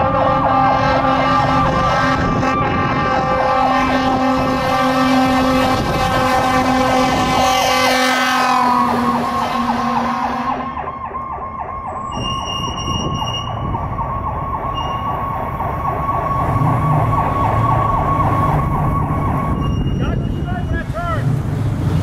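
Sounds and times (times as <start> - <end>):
fire engine siren yelping: 0.0 - 20.7
truck engine rumble: 0.0 - 22.0.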